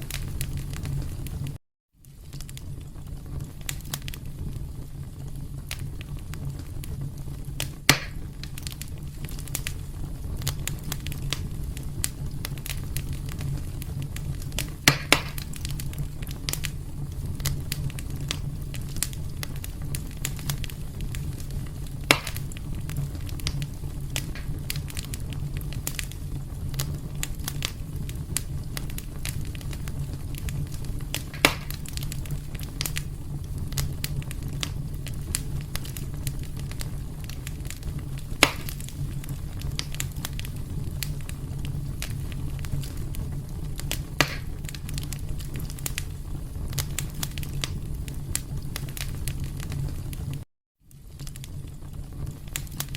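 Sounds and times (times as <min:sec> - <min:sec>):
burning logs popping: 0:00.0 - 0:52.9
fire crackling: 0:00.0 - 0:52.9
low fire rumble: 0:00.0 - 0:52.9.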